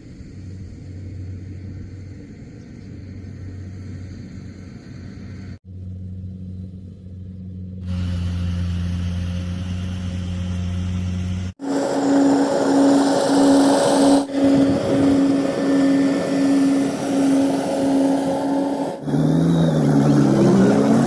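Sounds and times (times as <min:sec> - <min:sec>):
harvester engine humming: 0:00.0 - 0:21.0.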